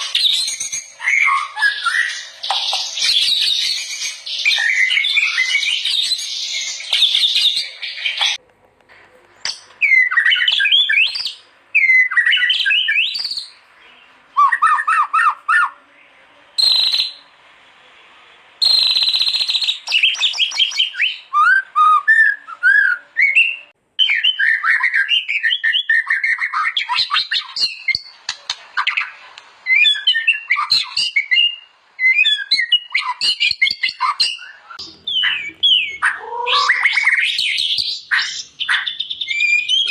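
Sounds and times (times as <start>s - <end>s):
bird singing whistled phrases: 0.0s - 8.4s, 9.8s - 13.6s, 16.6s - 17.2s, 18.6s - 28.2s, 29.7s - 39.9s.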